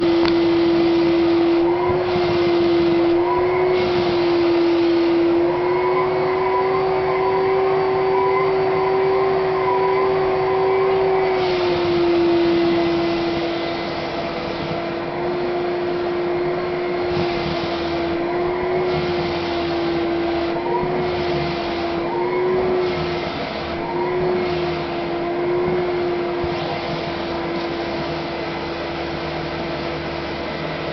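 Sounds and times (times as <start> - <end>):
vacuum cleaner whine: 0.0 - 30.9.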